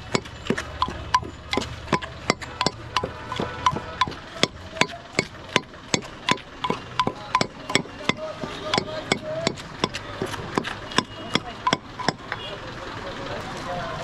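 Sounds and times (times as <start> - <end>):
knife chopping fruit: 0.0 - 12.2.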